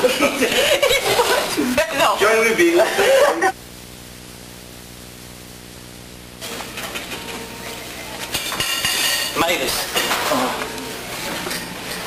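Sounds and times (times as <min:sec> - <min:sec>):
camcorder electrical buzz-hum: 0:00.0 - 0:12.0
room noise: 0:00.0 - 0:12.0.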